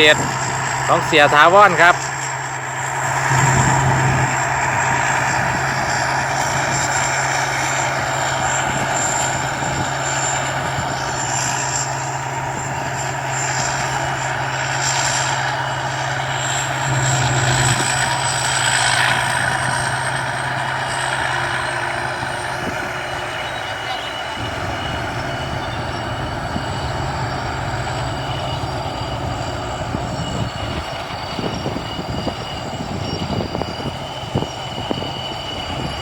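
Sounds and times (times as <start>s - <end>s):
combine harvester engine hum: 0.0s - 36.0s
thin high whine: 0.0s - 36.0s.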